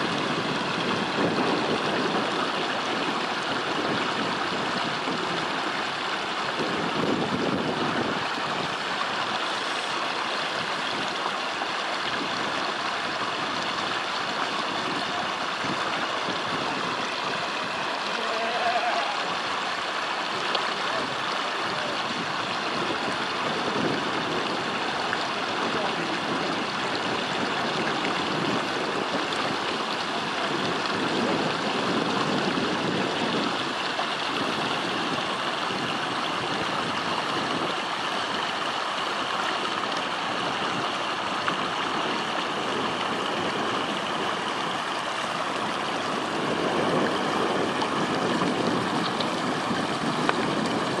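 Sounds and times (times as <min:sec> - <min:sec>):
river water rushing over rocks: 0:00.0 - 0:51.0.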